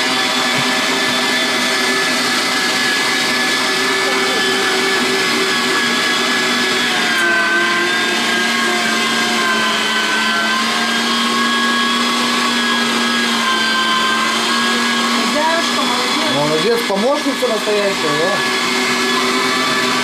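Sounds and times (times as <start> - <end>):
electric meat grinder motor whine: 0.0 - 20.0.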